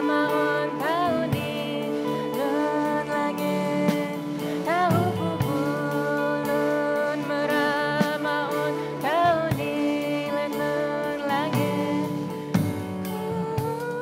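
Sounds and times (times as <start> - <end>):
plucked lute: 0.0 - 14.0
woman singing slowly: 0.0 - 14.0.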